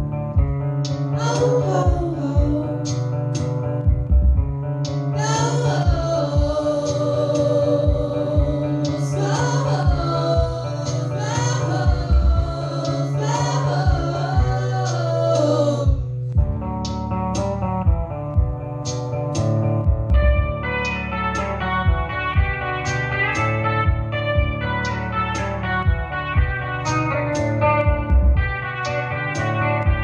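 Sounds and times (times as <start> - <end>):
electric guitar: 0.0 - 30.0
steady beat: 0.0 - 30.0.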